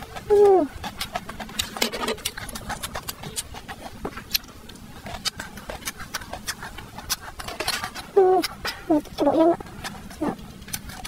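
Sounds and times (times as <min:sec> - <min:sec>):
chewing with wet mouth clicks: 0:00.0 - 0:11.0.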